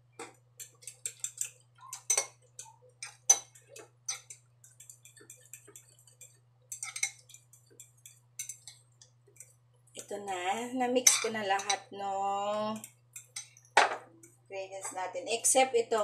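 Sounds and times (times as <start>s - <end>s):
hand mixing rice in a bowl: 0.0s - 13.4s
low steady hum: 0.0s - 16.0s.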